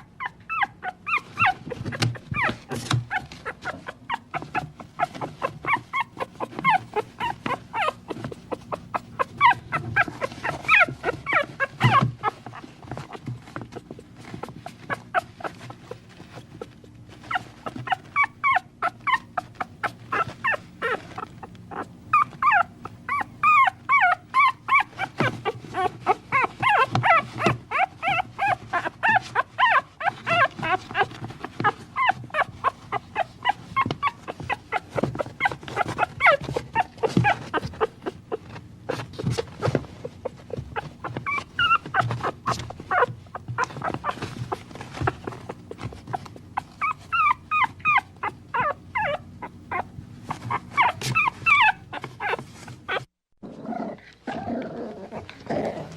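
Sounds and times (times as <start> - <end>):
puppies whimpering and yipping: 0.0 - 53.2.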